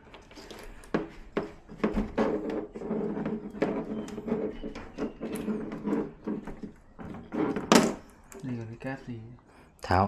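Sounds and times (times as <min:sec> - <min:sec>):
plastic parts clicking and knocking: 0:00.0 - 0:08.6.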